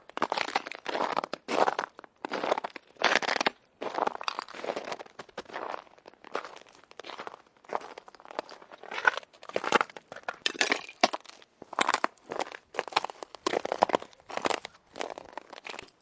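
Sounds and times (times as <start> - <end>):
footsteps crunching on ice: 0.1 - 16.0.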